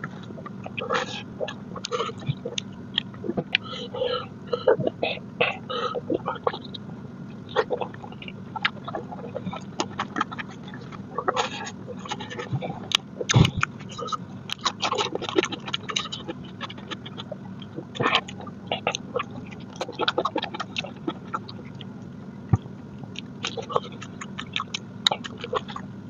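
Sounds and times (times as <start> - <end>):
wet chewing and lip smacking: 0.0 - 4.0, 4.6 - 26.0.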